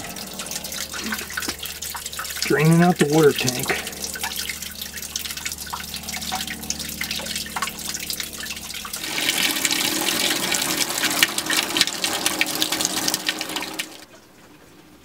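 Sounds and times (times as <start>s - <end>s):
water pouring into steel sink: 0.0s - 14.1s
water pump humming: 0.0s - 14.3s.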